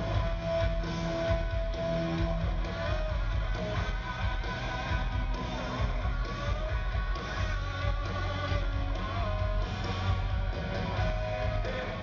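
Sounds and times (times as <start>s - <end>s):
electric guitar: 0.0s - 12.0s
rock band playing live: 0.0s - 12.0s.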